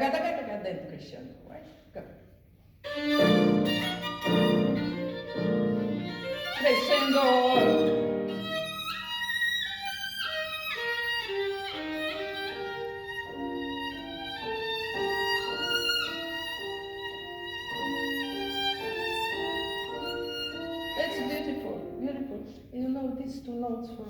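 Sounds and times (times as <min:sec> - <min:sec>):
violin melody: 0:02.8 - 0:22.2.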